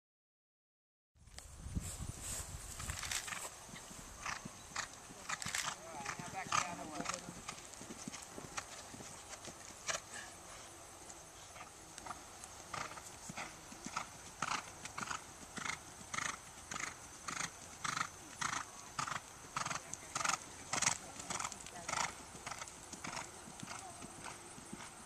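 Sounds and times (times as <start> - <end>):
horse cantering on sand: 2.1 - 25.0.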